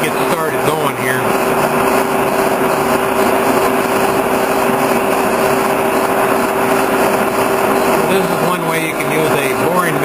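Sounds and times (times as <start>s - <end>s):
boring mill droning and whining: 0.0s - 10.0s.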